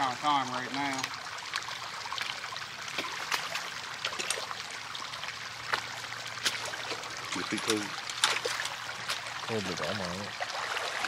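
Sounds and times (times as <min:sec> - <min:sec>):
pond water trickling and dripping: 0:00.0 - 0:11.0
small splashes in water: 0:00.6 - 0:11.0.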